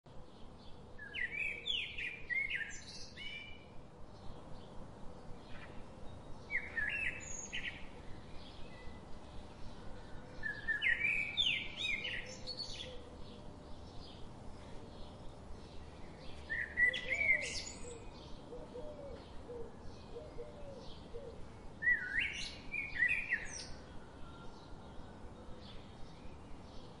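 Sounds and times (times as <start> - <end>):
songbird singing: 0.1 - 27.0.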